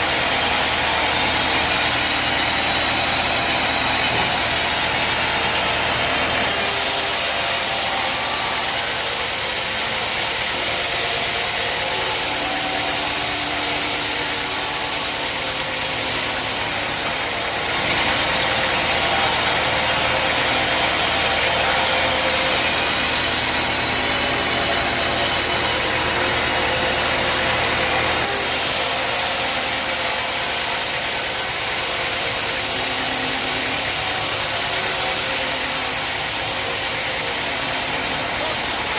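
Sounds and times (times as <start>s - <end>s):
loud machinery hiss: 0.0s - 38.9s.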